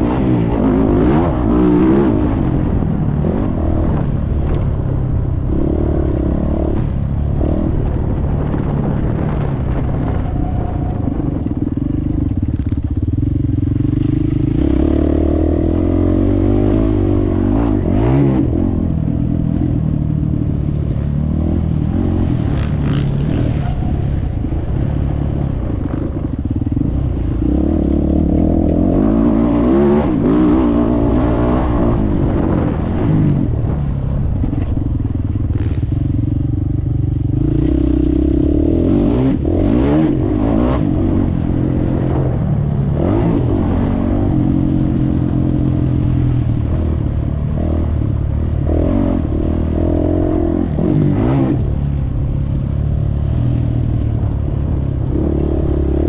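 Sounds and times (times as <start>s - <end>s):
motorcycle engine revving: 0.0s - 56.0s
wind buffeting microphone: 0.0s - 56.0s.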